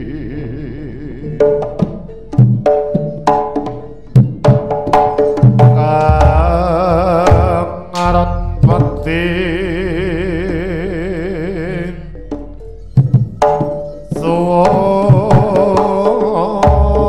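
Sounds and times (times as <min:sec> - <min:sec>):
gamelan melody with wavering note: 0:00.0 - 0:17.0
drum strokes: 0:01.3 - 0:11.0, 0:12.1 - 0:17.0.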